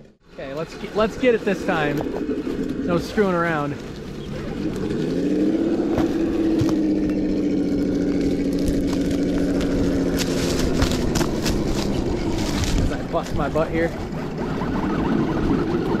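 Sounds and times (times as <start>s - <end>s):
simulated engine from small speaker: 1.5s - 16.0s.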